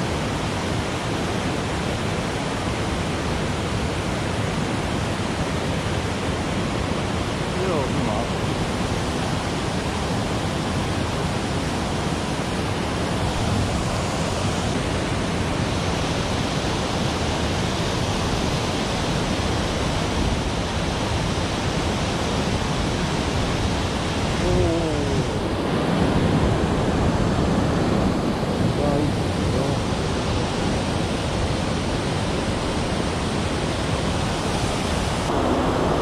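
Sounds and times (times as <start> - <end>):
water rushing over weir: 0.0 - 36.0.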